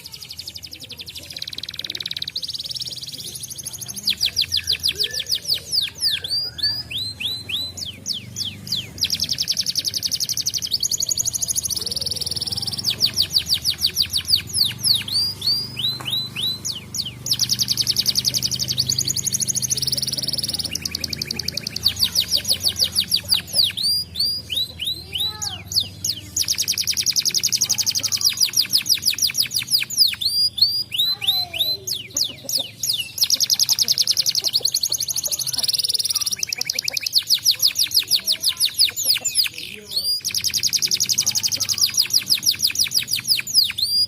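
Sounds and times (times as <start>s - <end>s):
canary singing: 0.0s - 44.0s.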